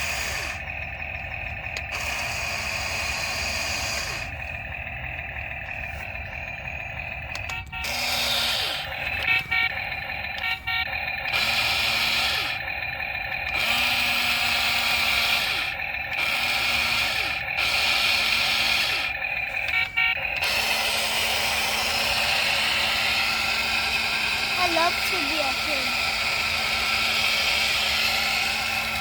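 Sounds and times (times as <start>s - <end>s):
toy electric motors whirring: 0.0s - 29.0s.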